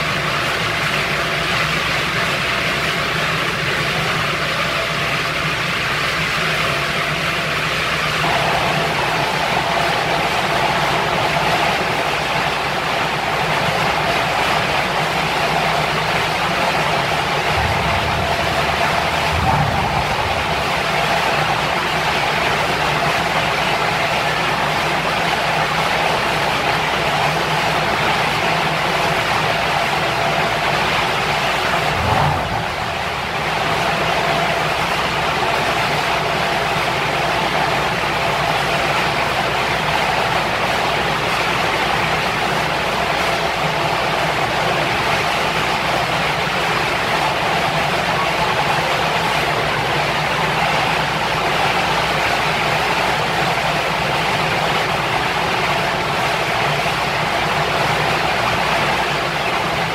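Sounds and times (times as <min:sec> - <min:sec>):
car engine idling: 0:00.0 - 0:59.9
cooling fan whirring: 0:00.0 - 0:59.9.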